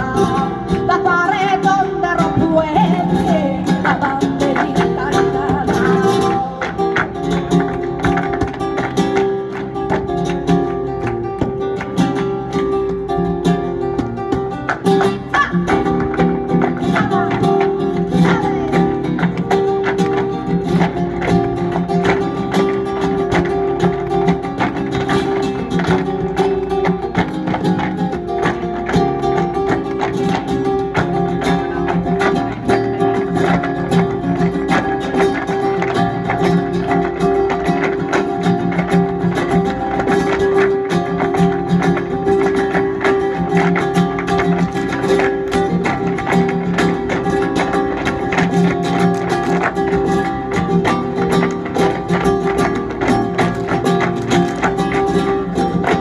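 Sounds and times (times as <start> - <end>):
acoustic guitar playing: 0.0 - 56.0
percussive taps and claps: 0.0 - 56.0.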